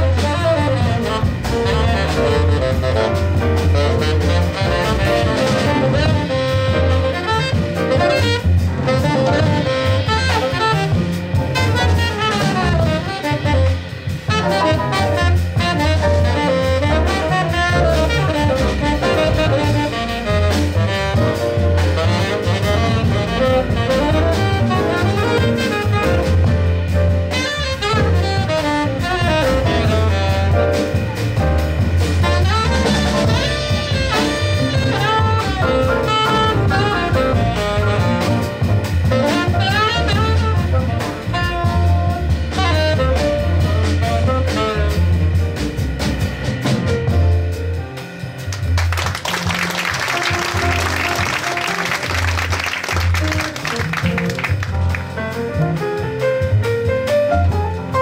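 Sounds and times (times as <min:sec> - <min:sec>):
plucked upright bass: 0:00.0 - 0:13.8, 0:14.4 - 0:52.4, 0:53.1 - 0:58.0
saxophone solo: 0:00.0 - 0:45.6, 0:49.1 - 0:58.0
drum kit with cymbals: 0:00.0 - 0:58.0.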